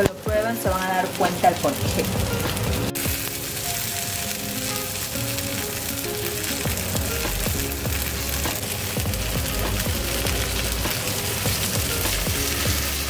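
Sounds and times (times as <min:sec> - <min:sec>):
patties sizzling in oil: 0:00.0 - 0:13.0.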